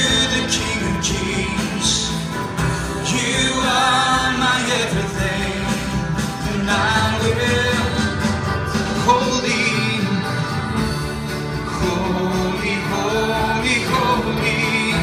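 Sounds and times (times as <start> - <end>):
people singing: 0.0 - 10.9, 11.5 - 15.0
drums: 0.0 - 15.0
guitar: 0.0 - 15.0.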